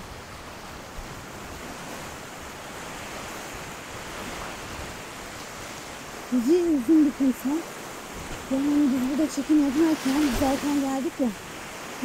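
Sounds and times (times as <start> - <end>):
sea surf washing onto beach: 0.0 - 12.0
wind buffeting microphone: 0.0 - 12.0.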